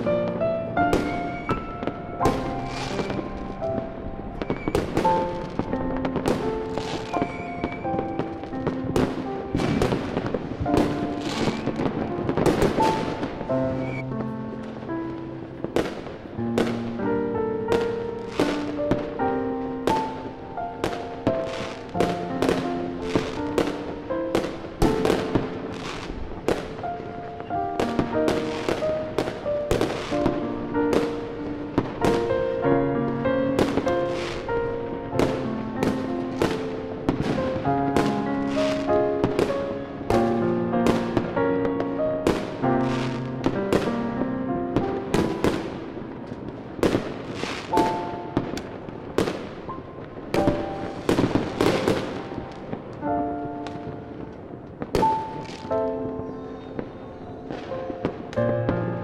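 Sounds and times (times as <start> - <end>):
music with held notes: 0.0 - 49.3
fireworks bangs: 0.0 - 59.0
fireworks crackling fizz: 0.0 - 59.0.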